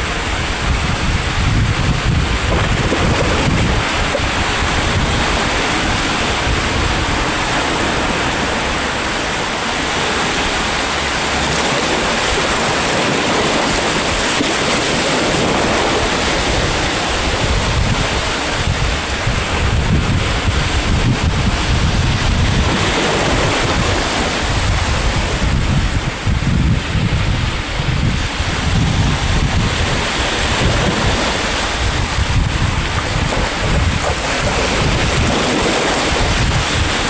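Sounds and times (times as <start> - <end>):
sea waves washing ashore: 0.0 - 37.0
wind buffeting microphone: 0.0 - 37.0.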